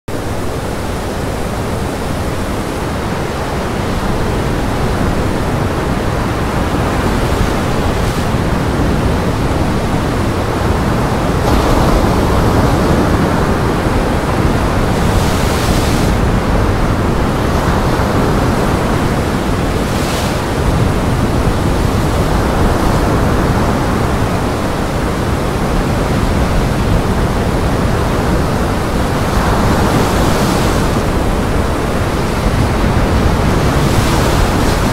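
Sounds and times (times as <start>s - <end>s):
wind rumbling on microphone: 0.1s - 34.9s
waves crashing against rocks: 0.6s - 34.9s.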